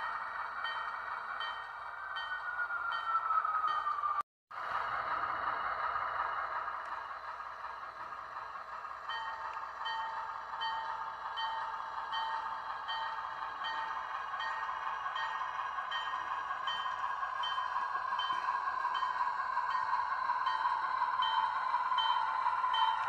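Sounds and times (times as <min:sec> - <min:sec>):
model locomotive whine: 0:00.0 - 0:23.0.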